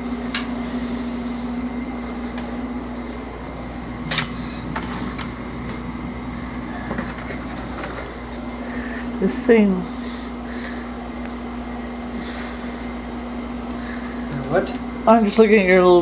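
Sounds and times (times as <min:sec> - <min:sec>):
steady motor hum: 0:00.0 - 0:16.0.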